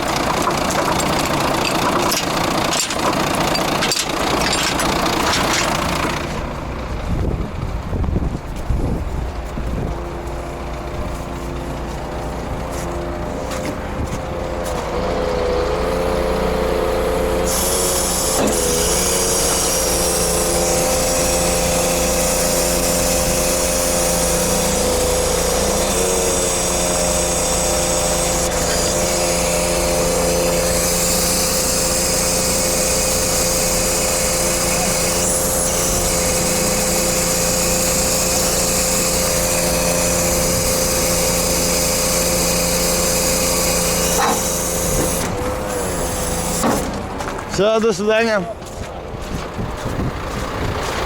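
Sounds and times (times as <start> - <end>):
truck mechanical whine: 0.0 - 51.0.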